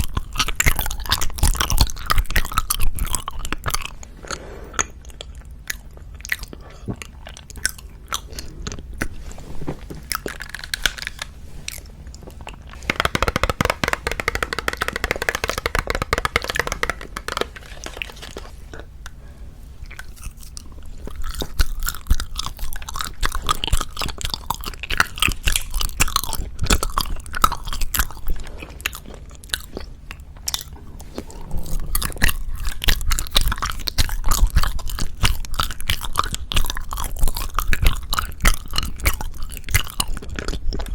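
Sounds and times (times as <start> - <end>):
close chewing and biting: 0.0 - 19.2, 19.8 - 40.9.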